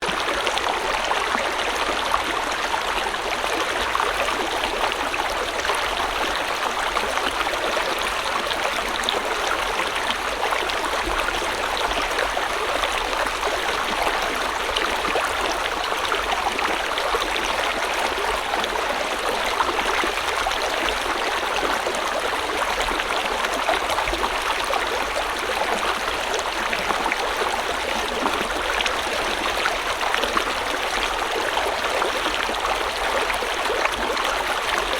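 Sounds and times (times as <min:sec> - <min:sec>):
river water flowing over stones: 0:00.0 - 0:34.9.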